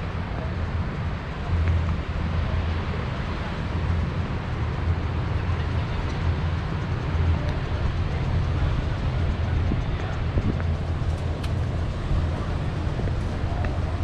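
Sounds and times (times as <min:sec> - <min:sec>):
low engine rumble: 0:00.0 - 0:14.0
wind noise on microphone: 0:00.0 - 0:14.0.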